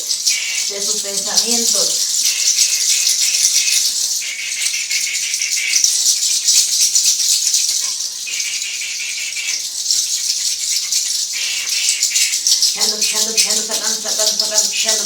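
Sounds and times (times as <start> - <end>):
handheld rattle shaken rapidly: 0.0 - 15.0.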